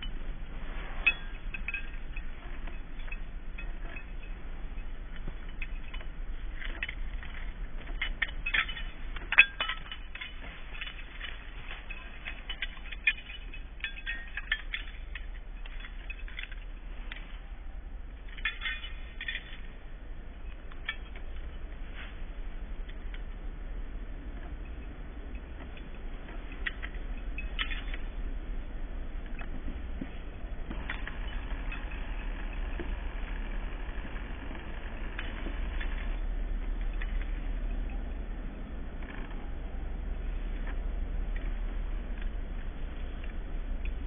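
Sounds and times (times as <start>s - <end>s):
light metallic clinking and jingling: 0.0s - 44.0s
low steady hum: 0.0s - 44.0s.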